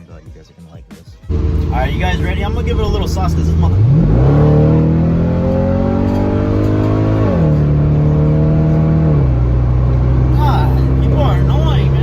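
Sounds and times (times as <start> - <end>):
car engine accelerating hard: 1.3 - 12.0.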